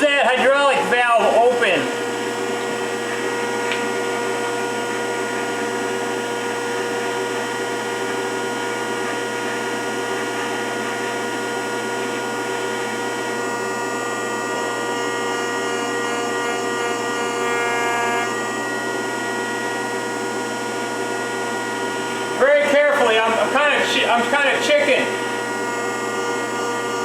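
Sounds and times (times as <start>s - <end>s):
hydraulic planer whine: 0.0s - 27.0s.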